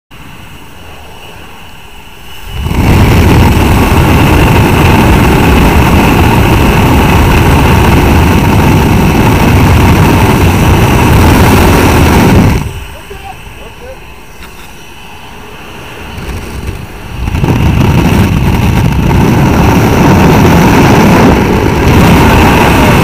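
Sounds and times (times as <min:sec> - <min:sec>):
plane engine drone: 0:00.1 - 0:23.0
rushing slipstream wind: 0:00.1 - 0:23.0.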